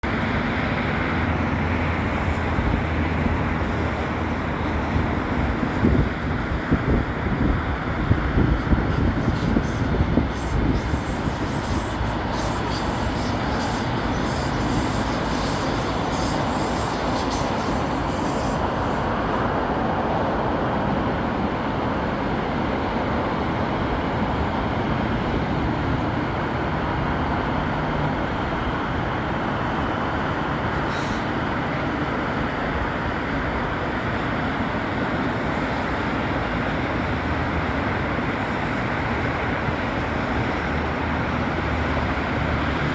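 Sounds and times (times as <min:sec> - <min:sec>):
light rail train rumble: 0:00.0 - 0:42.9.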